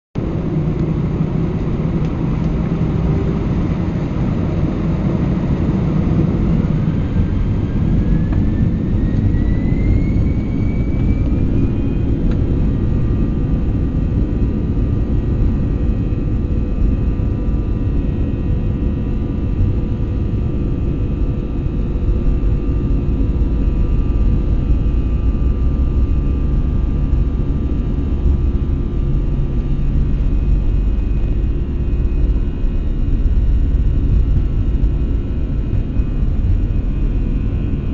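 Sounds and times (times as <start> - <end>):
jet engine whine rising: 0.2 - 37.9
jet engines roaring in cabin: 0.2 - 37.9.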